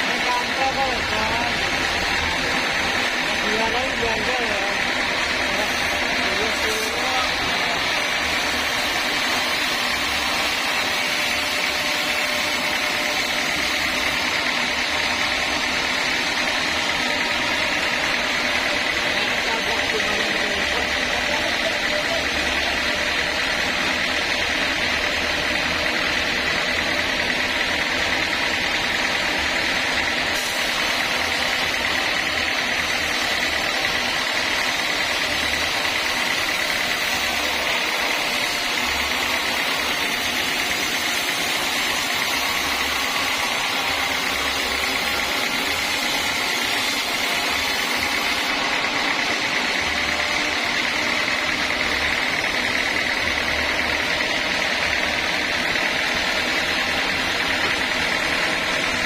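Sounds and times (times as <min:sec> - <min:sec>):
sawmill saw running: 0:00.0 - 0:59.0.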